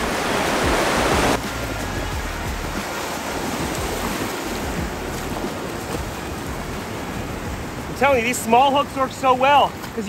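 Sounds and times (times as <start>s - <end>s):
surf breaking on beach: 0.0s - 10.0s.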